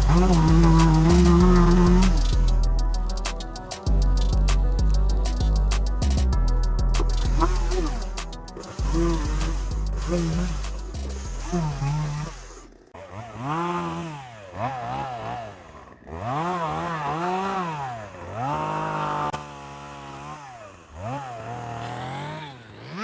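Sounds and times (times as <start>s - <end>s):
chainsaw revving: 0.0s - 23.0s.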